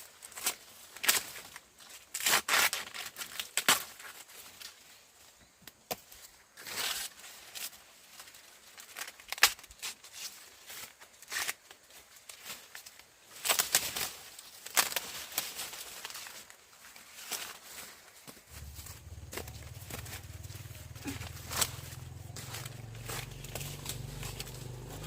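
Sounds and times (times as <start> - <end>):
dry material rustling and tearing: 0.0 - 4.8, 6.0 - 25.0.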